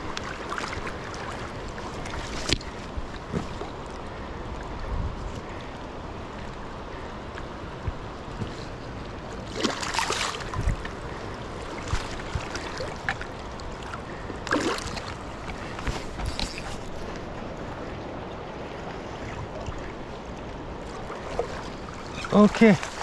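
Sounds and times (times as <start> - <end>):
creek water rushing over rocks: 0.0 - 23.0
water splashes: 0.0 - 23.0.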